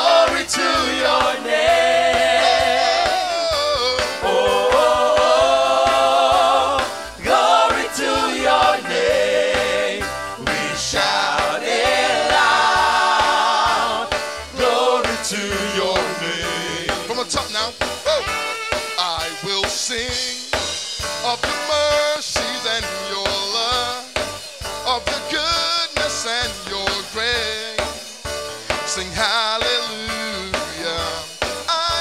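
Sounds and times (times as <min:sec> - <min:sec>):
voices singing gospel: 0:00.0 - 0:18.3, 0:19.0 - 0:32.0
instrumental accompaniment: 0:00.0 - 0:32.0.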